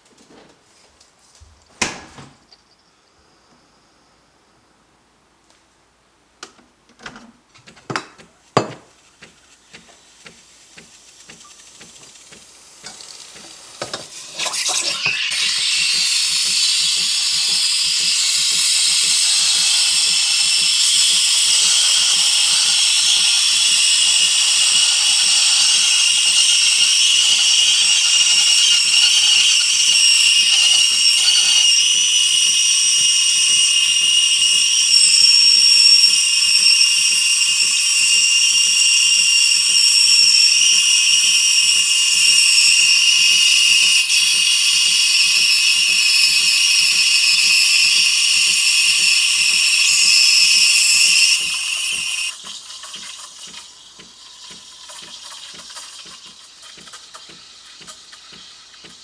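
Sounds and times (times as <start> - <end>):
steam wand hissing: 8.8 - 59.0.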